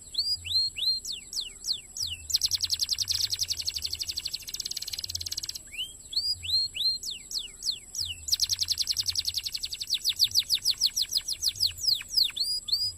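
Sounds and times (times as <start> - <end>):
canary singing: 0.0 - 12.9.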